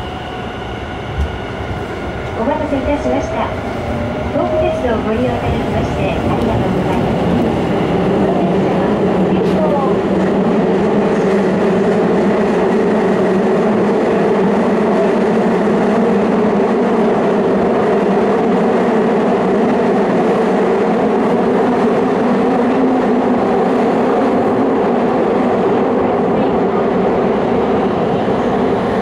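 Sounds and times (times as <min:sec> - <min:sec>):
train wheels rumbling in tunnel: 0:00.0 - 0:29.0.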